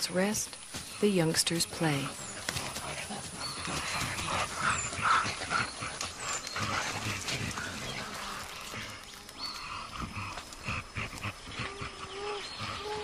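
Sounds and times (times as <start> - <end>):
young gorillas calling: 0.9 - 13.0.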